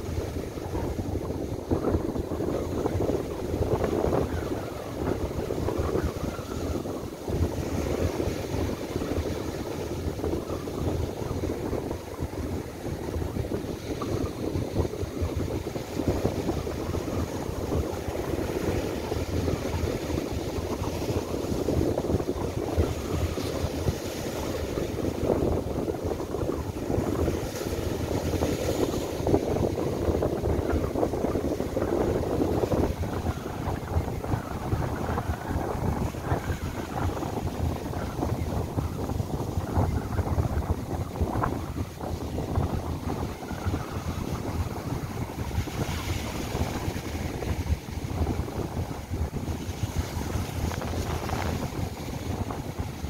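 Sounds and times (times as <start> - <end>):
gusty wind on microphone: 0.0 - 53.0
surf breaking on beach: 0.0 - 53.0.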